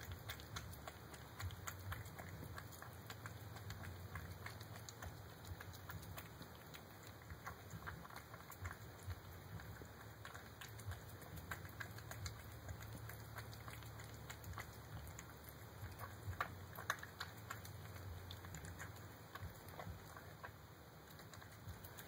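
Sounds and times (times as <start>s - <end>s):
cat chewing and lapping food: 0.0s - 22.0s
faint low hum: 0.0s - 22.0s.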